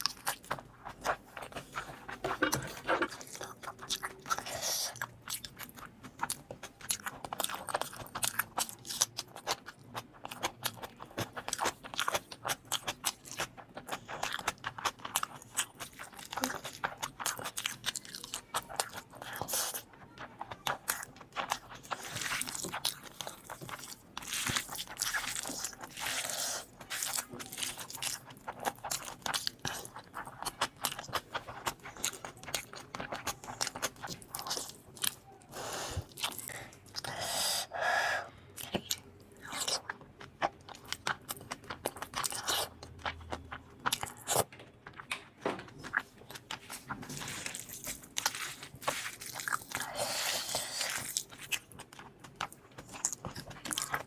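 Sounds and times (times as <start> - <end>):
crunching and chewing food: 0.0 - 54.0.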